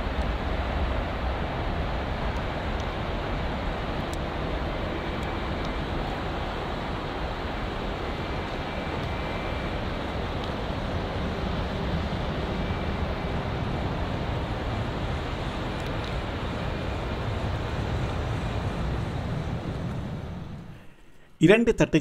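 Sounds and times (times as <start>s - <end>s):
jet engines at takeoff thrust: 0.0s - 21.3s.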